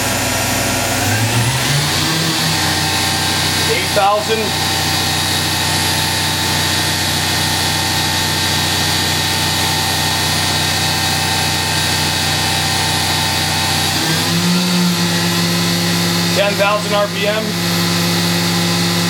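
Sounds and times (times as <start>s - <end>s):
machine spindle hum and whine: 0.0s - 19.0s.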